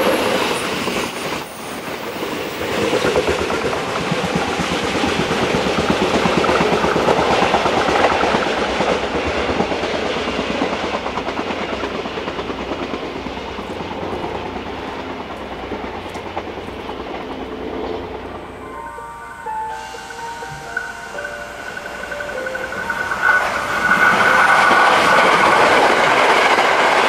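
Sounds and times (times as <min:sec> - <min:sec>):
train wheels rumbling and clicking: 0:00.0 - 0:27.0.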